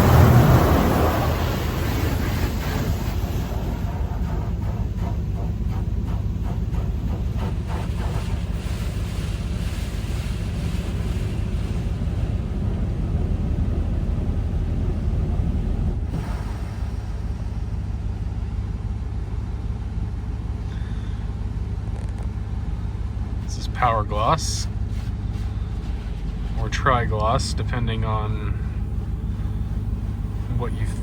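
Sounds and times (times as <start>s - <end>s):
water spray blasting a truck: 0.0s - 19.0s, 20.7s - 31.0s
low rumble: 0.0s - 31.0s.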